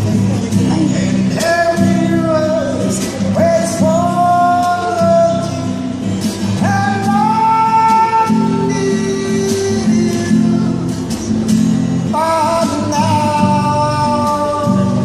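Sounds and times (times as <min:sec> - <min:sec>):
strummed guitar: 0:00.0 - 0:15.0.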